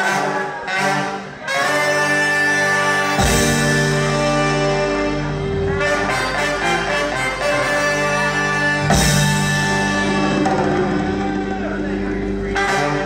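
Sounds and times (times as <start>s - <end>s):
band playing: 0.0s - 13.0s
horn section playing chords: 0.0s - 13.0s.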